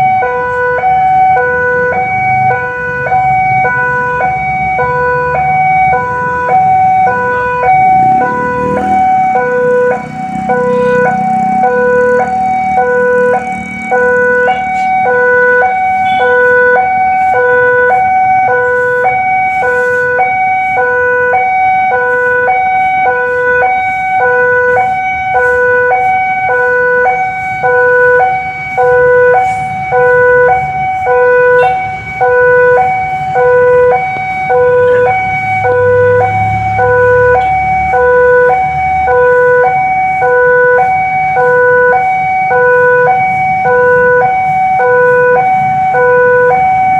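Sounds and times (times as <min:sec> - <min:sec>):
level crossing warning alarm: 0:00.0 - 0:46.9
road traffic rumbling: 0:00.0 - 0:46.9.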